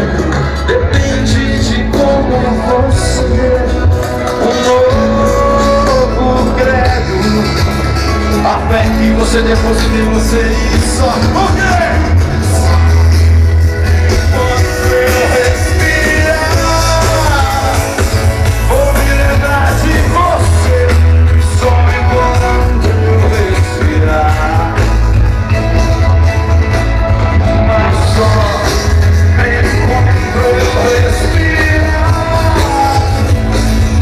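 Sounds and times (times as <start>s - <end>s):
rock music over pa speakers: 0.0s - 34.0s.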